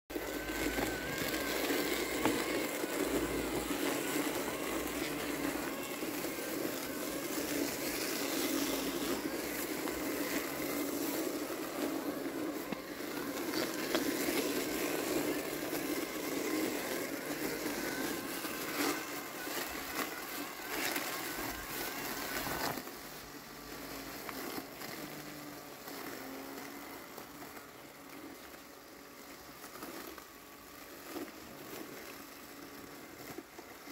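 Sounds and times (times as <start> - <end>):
faint wavering motor whine: 0.1 - 33.9
robotic lawn mower cutting grass: 0.1 - 33.9.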